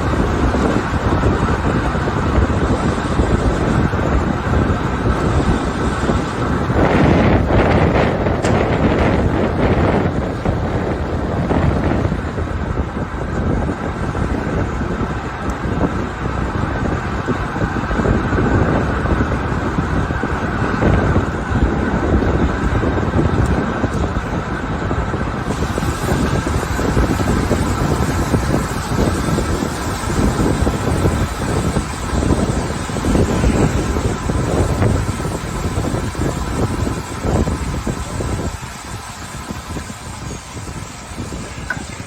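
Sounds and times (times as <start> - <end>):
city traffic: 0.0 - 42.0
wind buffeting microphone: 0.0 - 42.0.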